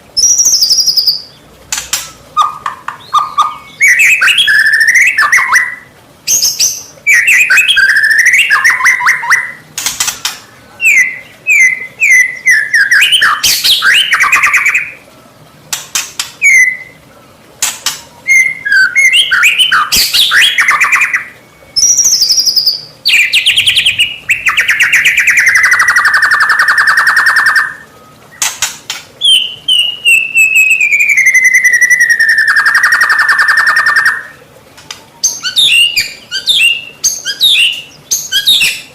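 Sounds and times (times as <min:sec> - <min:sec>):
bird singing whistled trills: 0:00.2 - 0:15.0, 0:15.7 - 0:38.9.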